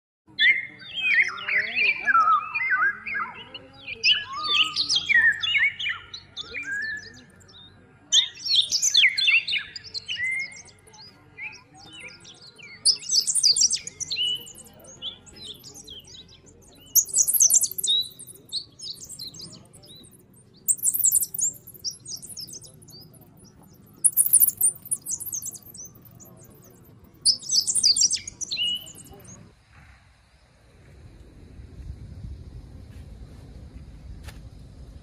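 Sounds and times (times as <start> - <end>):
songbirds chirping and singing: 0.3 - 29.6.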